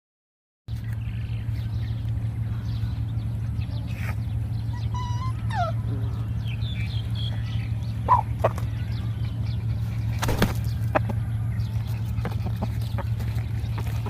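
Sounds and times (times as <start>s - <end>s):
birds chirping: 0.7s - 14.0s
steady low hum: 0.7s - 14.0s.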